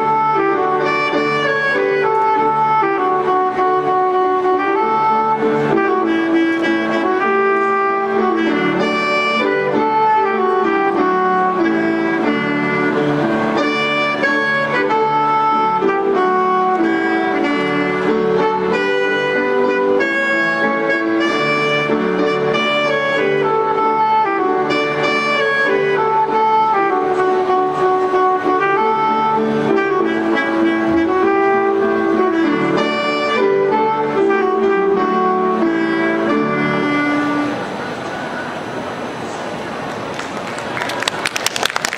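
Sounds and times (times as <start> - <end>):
alto saxophone melody: 0.0 - 38.1
sustained backing chords: 0.0 - 39.2.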